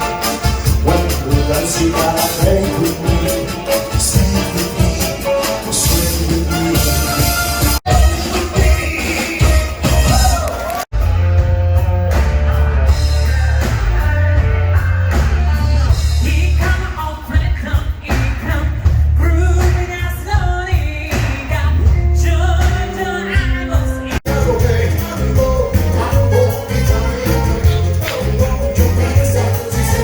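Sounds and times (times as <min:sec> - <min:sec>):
pop-rock song with vocals: 0:00.0 - 0:30.0.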